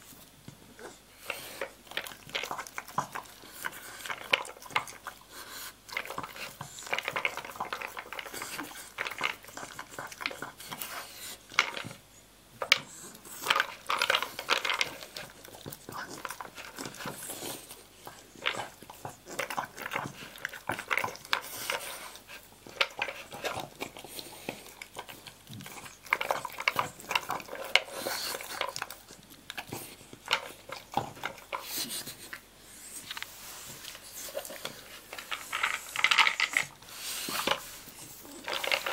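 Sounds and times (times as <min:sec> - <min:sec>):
dog crunching kibble: 0:01.2 - 0:12.0, 0:12.6 - 0:38.9.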